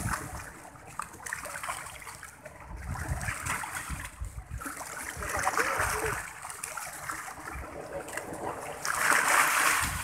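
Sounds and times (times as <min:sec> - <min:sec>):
waves splashing against rocks: 0:00.0 - 0:10.0.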